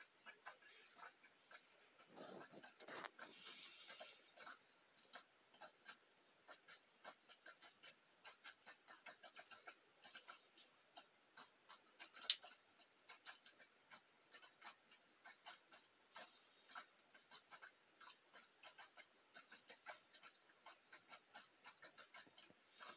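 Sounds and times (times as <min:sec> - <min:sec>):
faint clicking and popping: 0:00.0 - 0:22.9.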